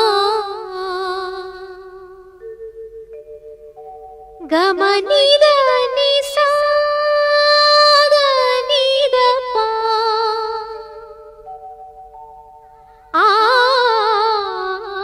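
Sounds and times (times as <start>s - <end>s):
woman singing wordless melody: 0.0s - 2.7s, 3.8s - 11.7s, 12.4s - 15.0s.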